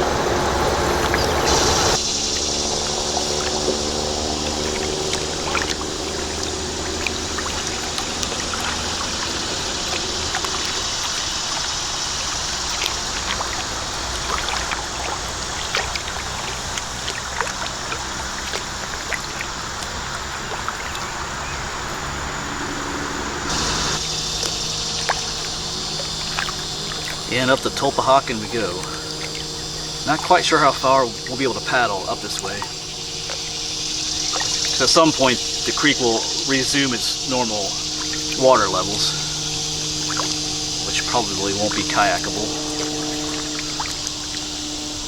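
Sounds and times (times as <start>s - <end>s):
kayak paddle splashes: 0.0s - 45.0s
road traffic hum: 0.0s - 45.0s
water dripping: 0.0s - 45.0s.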